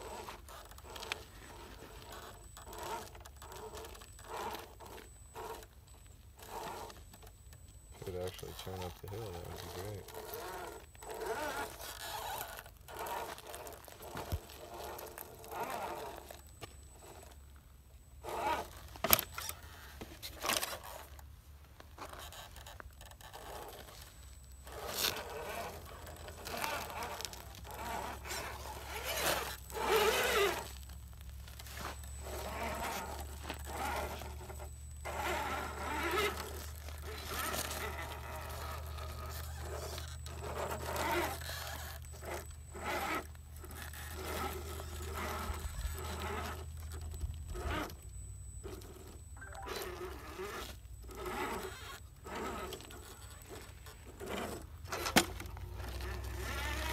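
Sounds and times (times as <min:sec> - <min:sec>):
toy truck motor bursts: 0:00.0 - 0:17.4, 0:18.2 - 0:21.2, 0:22.0 - 0:56.9
tyres crunching on dirt and rock: 0:00.0 - 0:56.9.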